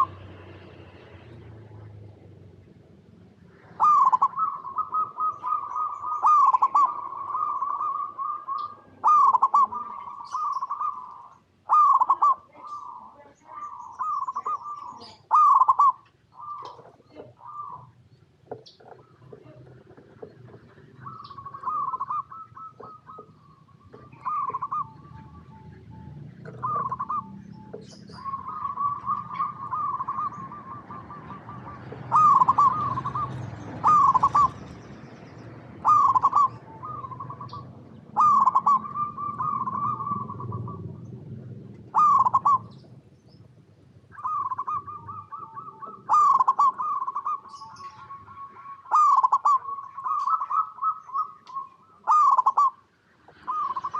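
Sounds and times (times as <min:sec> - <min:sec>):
dove cooing: 0:00.0 - 0:02.4, 0:03.1 - 0:35.0, 0:35.6 - 0:53.9.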